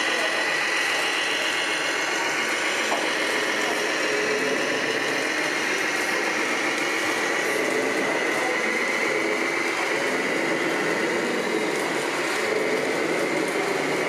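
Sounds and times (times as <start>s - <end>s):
model trucks whining: 0.0s - 14.0s.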